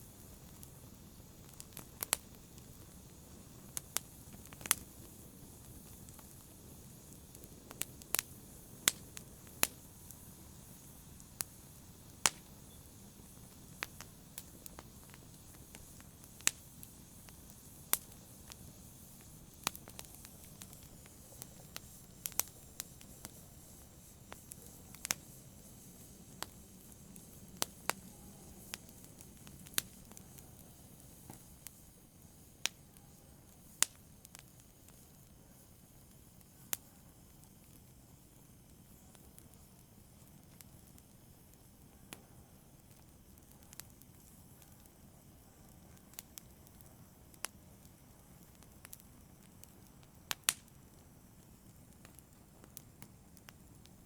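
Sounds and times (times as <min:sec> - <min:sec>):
low steady fire hiss: 0:00.0 - 0:54.0
wood fire pops and snaps: 0:00.2 - 0:31.8, 0:32.6 - 0:35.0, 0:42.1 - 0:54.0.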